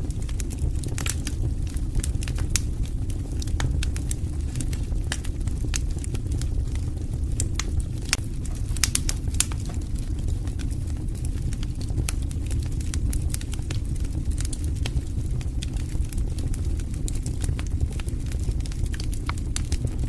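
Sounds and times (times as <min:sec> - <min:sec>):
logs crackling and popping: 0:00.0 - 0:20.0
low fire rumble: 0:00.0 - 0:20.0.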